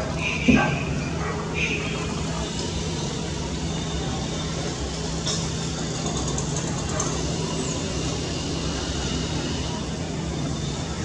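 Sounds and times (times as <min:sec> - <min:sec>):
low hum of road traffic: 0:00.0 - 0:11.0.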